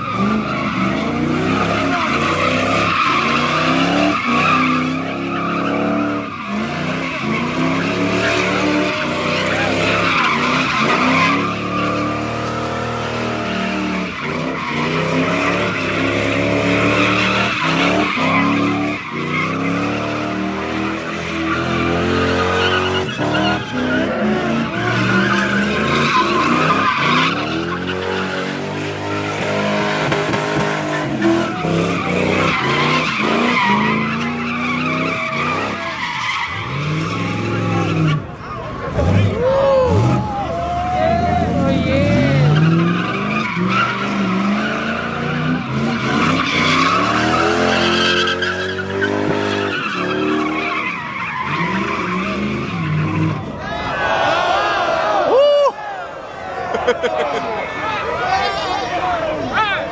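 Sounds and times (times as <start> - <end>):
car engine revving hard: 0.0 - 40.3, 41.2 - 53.6
tyres spinning on snow: 0.0 - 59.9.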